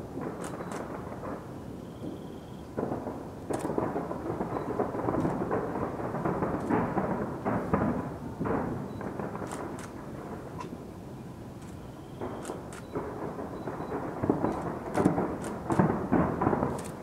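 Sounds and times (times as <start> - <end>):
sharp firework cracks: 0.0 - 10.9, 11.6 - 17.0
distant fireworks booming: 0.0 - 17.0.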